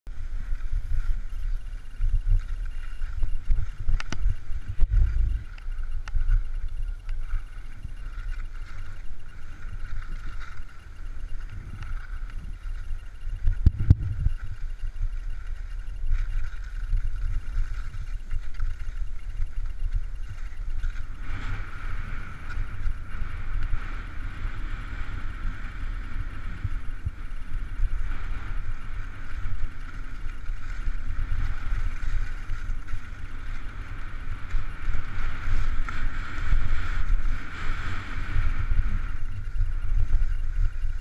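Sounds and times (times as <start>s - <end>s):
wind buffeting microphone: 0.1s - 41.0s.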